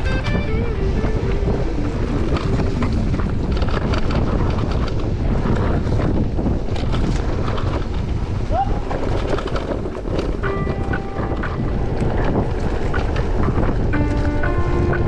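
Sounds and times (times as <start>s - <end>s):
tyres rumbling on dirt: 0.0s - 15.0s
wind buffeting microphone: 0.0s - 15.0s
bike clicks and rattles: 1.2s - 15.0s.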